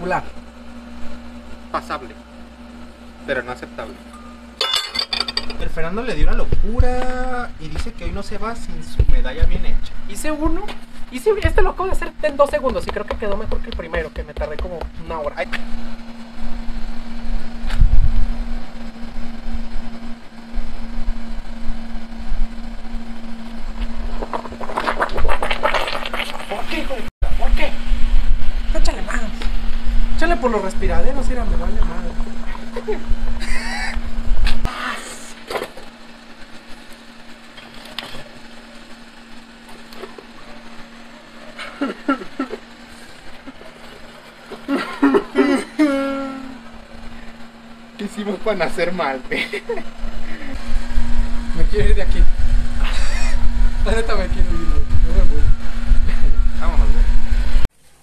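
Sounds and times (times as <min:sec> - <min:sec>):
motor hum: 0:00.0 - 0:58.0.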